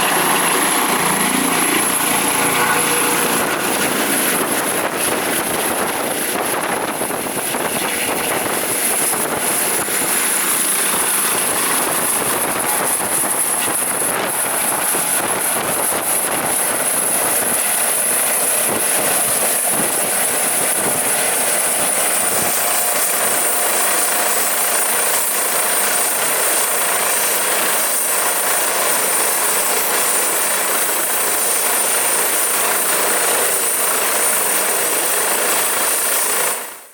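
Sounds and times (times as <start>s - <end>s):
high turbine whine: 0.0s - 36.8s
helicopter rotor and turbine noise: 0.0s - 36.9s.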